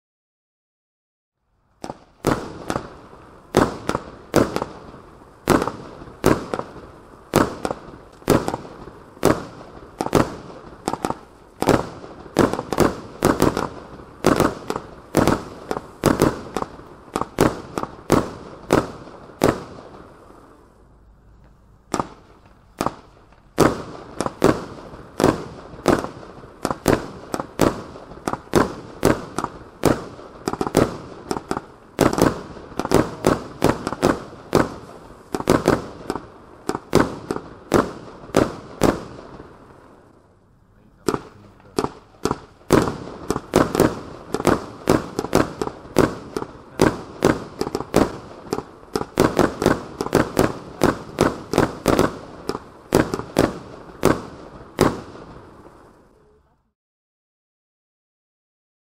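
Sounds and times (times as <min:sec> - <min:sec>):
fireworks cake bangs: 0:01.8 - 0:20.2, 0:21.9 - 0:39.5, 0:40.8 - 0:55.4.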